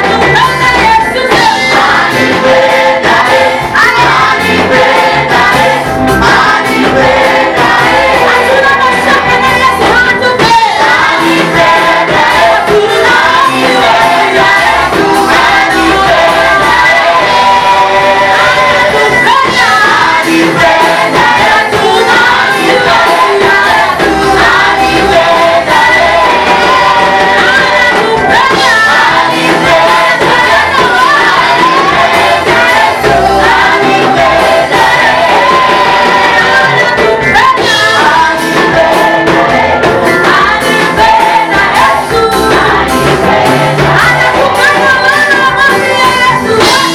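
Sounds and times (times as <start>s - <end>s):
group singing gospel song: 0.0s - 46.9s
instrumental accompaniment: 0.0s - 46.9s.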